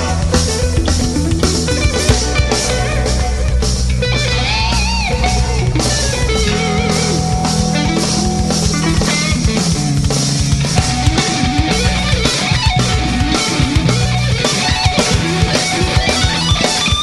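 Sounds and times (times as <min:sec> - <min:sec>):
drum and bass groove: 0:00.0 - 0:17.0
lead guitar bending notes: 0:00.0 - 0:17.0.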